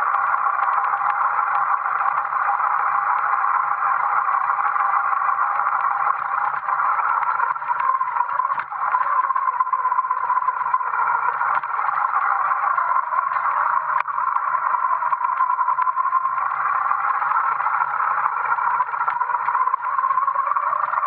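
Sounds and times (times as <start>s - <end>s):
electric motor whine: 0.0s - 21.0s
small ticks: 0.0s - 21.0s.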